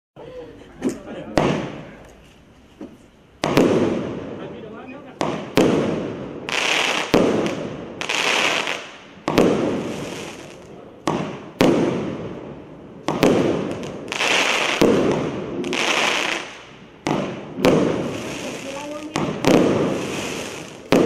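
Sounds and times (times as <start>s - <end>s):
firework bangs: 1.3s - 2.0s, 3.4s - 21.0s
crackling firework stars: 1.3s - 21.0s.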